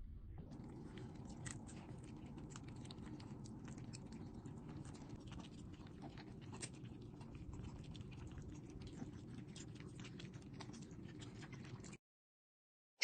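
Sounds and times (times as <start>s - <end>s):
dog chewing food: 0.5s - 12.0s.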